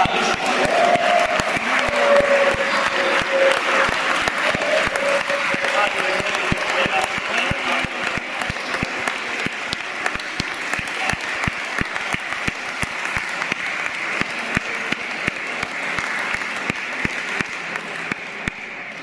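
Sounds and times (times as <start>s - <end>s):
group applause: 0.0s - 19.0s.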